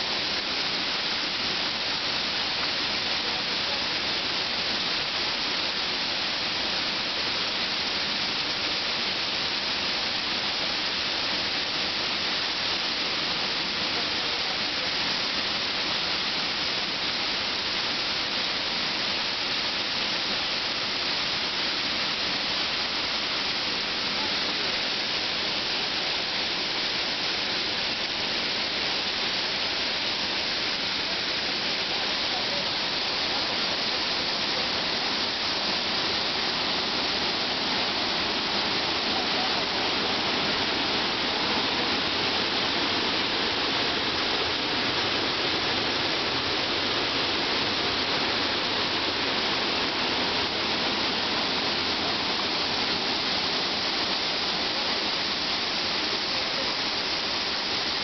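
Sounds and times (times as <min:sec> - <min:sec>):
waterfall rushing into pool: 0:00.0 - 0:58.0.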